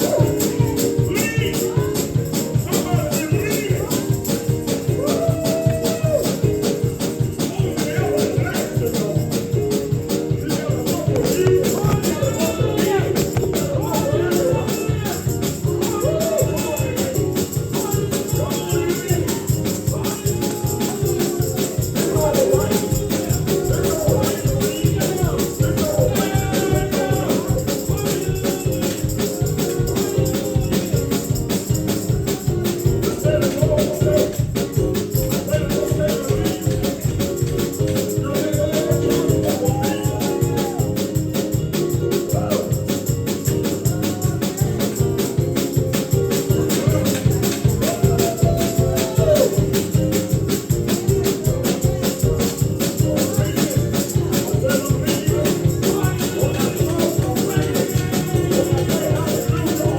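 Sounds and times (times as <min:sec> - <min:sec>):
people singing gospel: 0:00.0 - 0:59.9
tambourine rhythm: 0:00.0 - 0:59.9.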